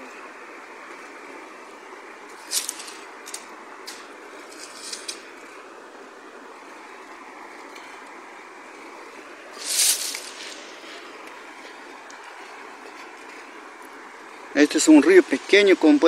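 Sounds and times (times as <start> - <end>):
rocky river running: 0.0 - 16.0.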